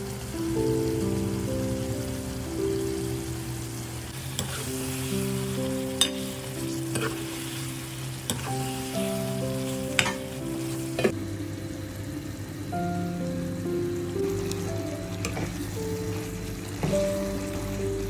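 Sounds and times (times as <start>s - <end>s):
food sizzling in a frying pan: 0.0s - 18.0s
soft background music: 0.0s - 18.0s.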